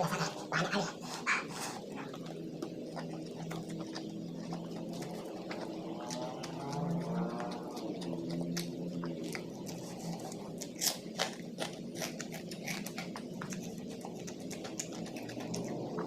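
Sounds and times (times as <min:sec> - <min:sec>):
person chewing close to microphone: 0:00.0 - 0:16.0
loud food crunches: 0:03.0 - 0:16.0.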